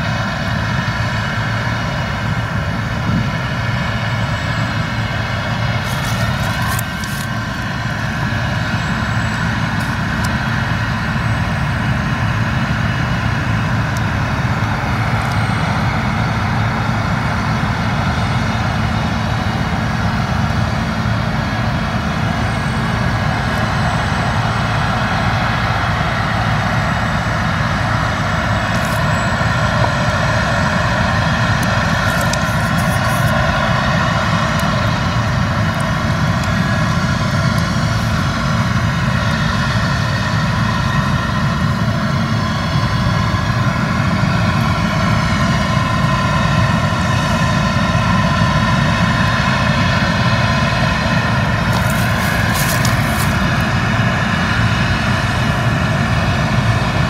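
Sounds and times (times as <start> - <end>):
combine harvester engine and threshing drone: 0.0 - 57.0.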